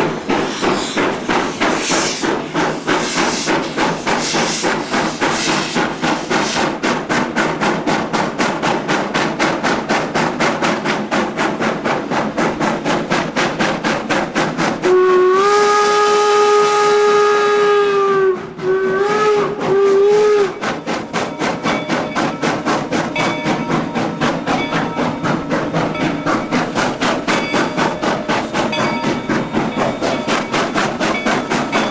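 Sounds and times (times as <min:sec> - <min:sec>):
steam locomotive exhaust chuffs: 0:00.0 - 0:31.9.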